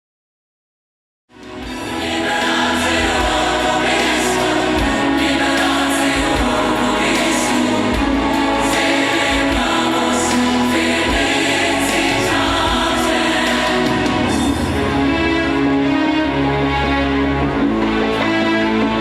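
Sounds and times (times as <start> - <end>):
choral singing: 1.4 - 19.0.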